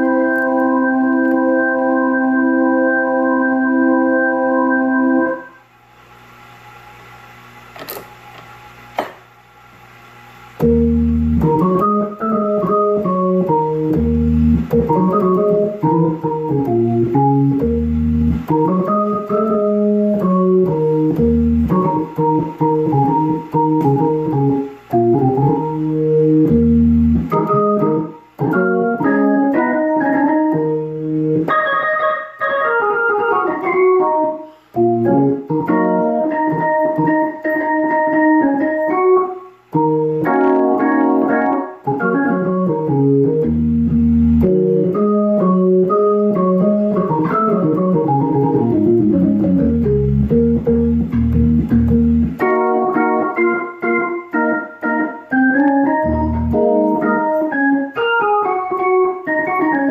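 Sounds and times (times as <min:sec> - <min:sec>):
low organ bass notes: 0:00.0 - 0:05.6, 0:10.0 - 0:59.9
organ chords through rotary speaker: 0:00.0 - 0:59.9.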